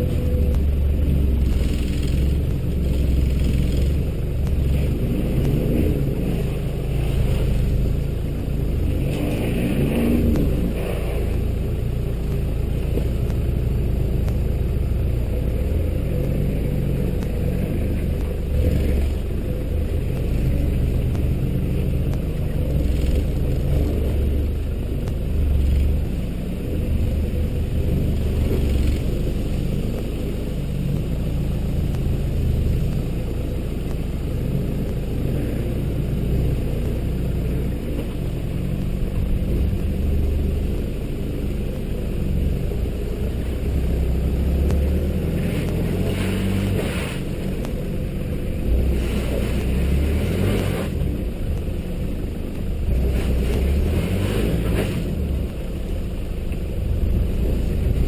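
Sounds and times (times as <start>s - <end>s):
vehicle engine under load: 0.0s - 58.0s.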